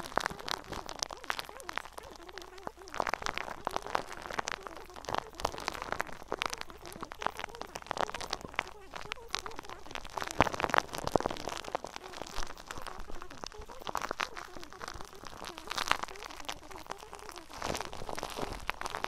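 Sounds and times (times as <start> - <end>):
crackling and crunching: 0.0 - 19.0.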